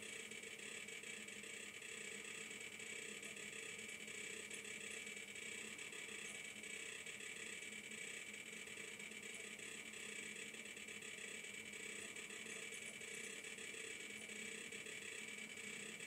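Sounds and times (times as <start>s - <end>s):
faint ticking from small speaker: 0.0s - 16.0s.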